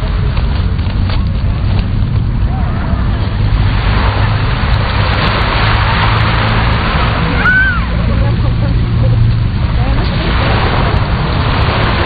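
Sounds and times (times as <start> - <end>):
waves washing onto sand: 0.0 - 12.0
wind on microphone: 0.0 - 12.0.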